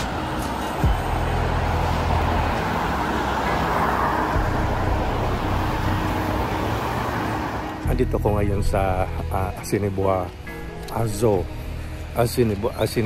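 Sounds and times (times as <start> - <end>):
car engines passing: 0.0 - 12.2.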